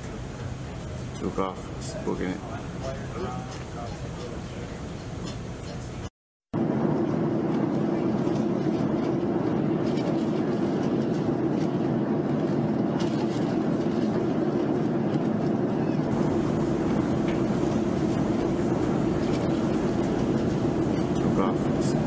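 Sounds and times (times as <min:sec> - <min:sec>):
muffled steady rumbling: 0:00.0 - 0:22.0.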